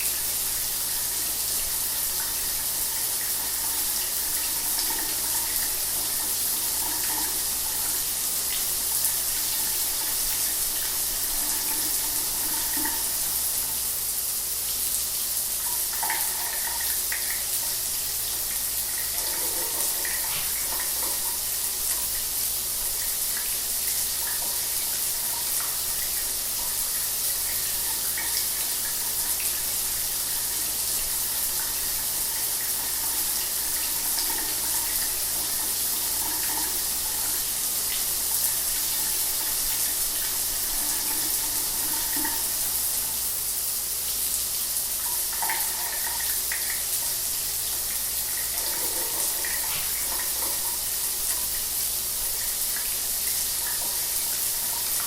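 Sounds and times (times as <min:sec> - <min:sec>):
shower water running: 0:00.0 - 0:55.0.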